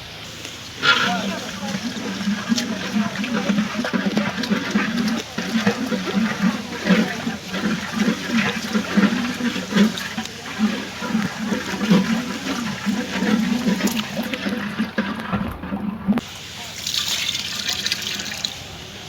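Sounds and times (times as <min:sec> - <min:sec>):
food bubbling and sizzling in pan: 0:00.2 - 0:18.7.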